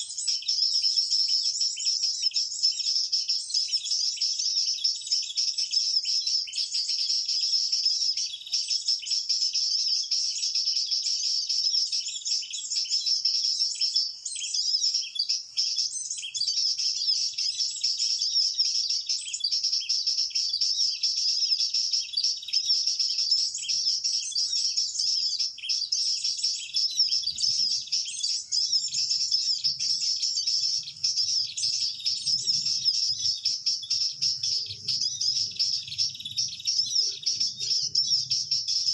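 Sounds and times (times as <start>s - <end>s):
rapid bird chirping song: 0.0s - 38.9s.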